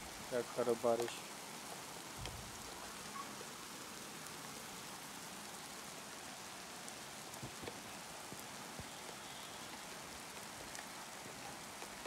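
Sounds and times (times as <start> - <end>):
rain hissing: 0.0 - 12.0
raindrop ticks: 0.2 - 12.0.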